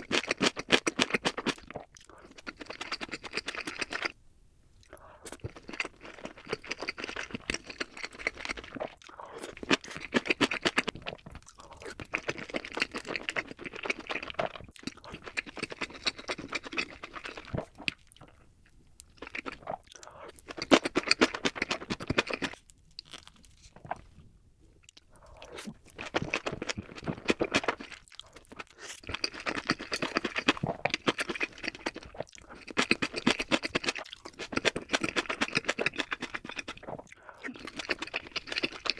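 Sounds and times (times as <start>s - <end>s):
crunching and chewing food: 0.0s - 4.2s, 4.8s - 38.9s.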